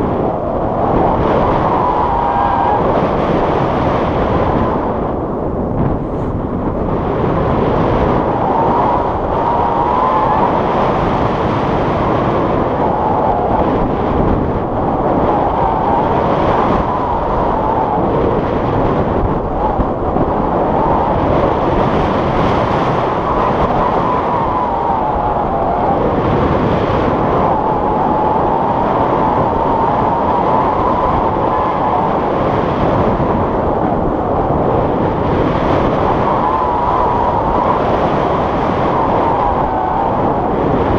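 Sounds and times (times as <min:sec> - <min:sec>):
wind roaring over microphone: 0:00.0 - 0:40.9.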